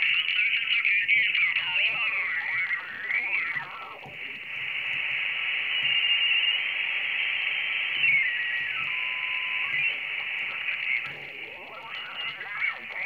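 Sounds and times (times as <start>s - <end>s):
radio band hiss: 0.0s - 13.0s
radio voice: 0.0s - 13.0s
radio whistle: 0.0s - 13.0s.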